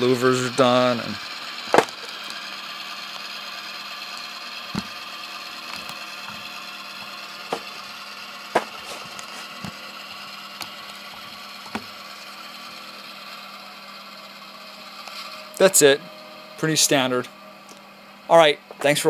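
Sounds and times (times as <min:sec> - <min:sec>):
diesel engine hum from small speaker: 0:00.0 - 0:19.0.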